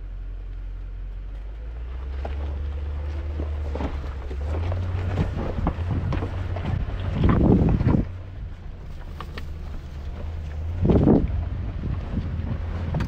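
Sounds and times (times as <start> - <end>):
off-road vehicle engine running: 0.0 - 13.0
rocks crunching under tyres: 0.1 - 13.0.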